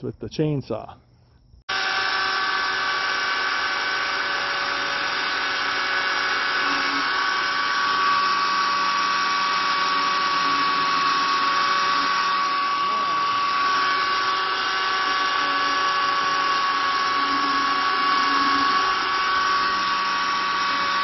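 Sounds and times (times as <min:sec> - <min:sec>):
mini chainsaw whining: 0:01.7 - 0:21.0.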